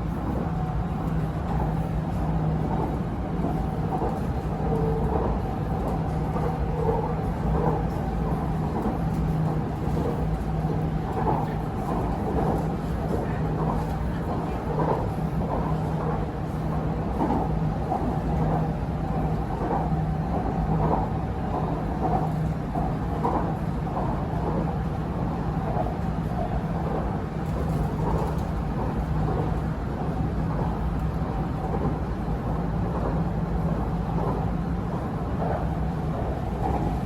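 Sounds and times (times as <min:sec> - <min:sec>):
metro train running noise: 0:00.0 - 0:37.0.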